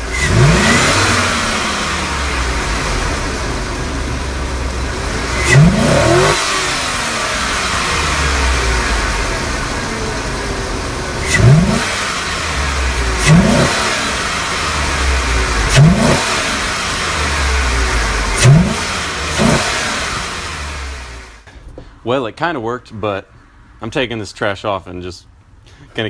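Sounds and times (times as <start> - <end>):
car engine revving: 0.0 - 21.4.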